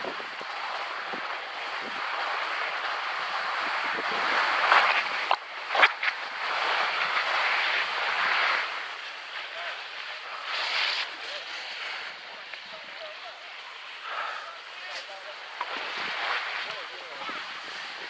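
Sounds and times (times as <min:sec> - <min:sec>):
ski scrapes: 0:00.0 - 0:18.0
skis hissing on snow: 0:00.0 - 0:18.0.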